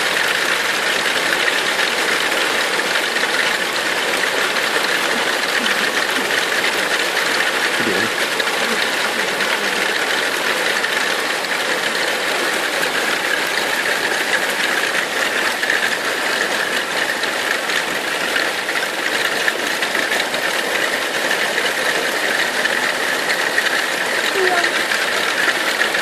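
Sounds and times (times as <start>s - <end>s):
hailstones clattering: 0.0s - 26.0s.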